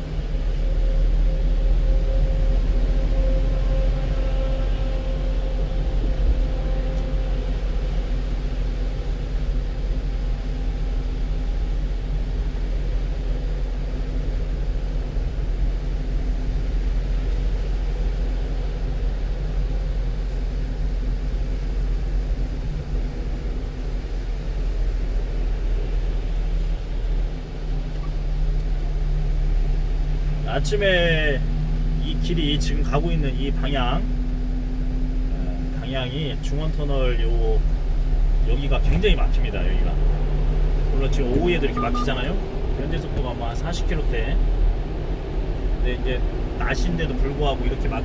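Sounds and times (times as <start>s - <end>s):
truck engine and road noise: 0.0s - 48.0s.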